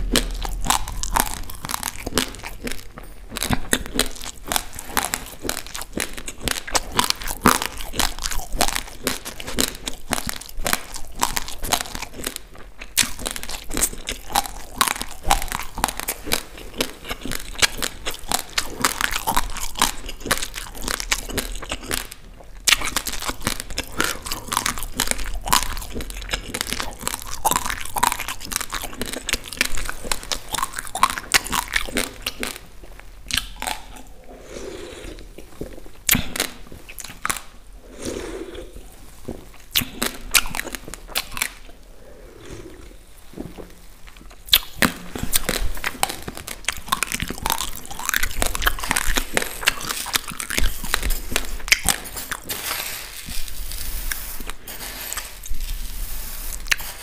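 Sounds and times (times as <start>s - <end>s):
crunching and chewing rice: 0.0s - 57.0s.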